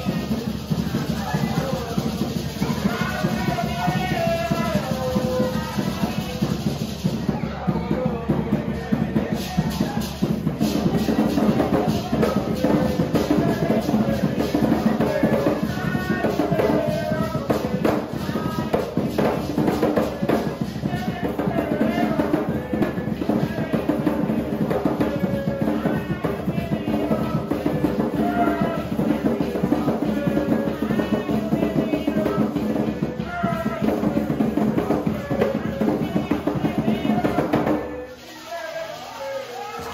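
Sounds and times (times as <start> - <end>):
fast hand drumming: 0.0 - 38.0
voices singing: 0.0 - 39.9.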